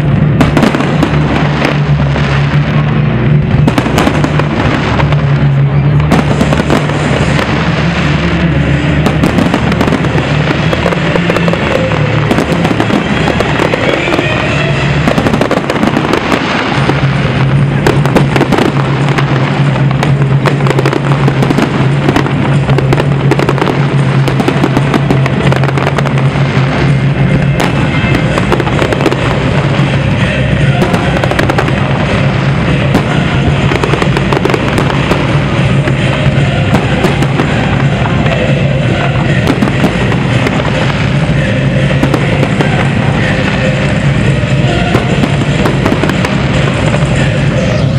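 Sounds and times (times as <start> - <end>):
fireworks bangs and crackles: 0.0 - 47.9
music with low bass line: 0.0 - 47.9.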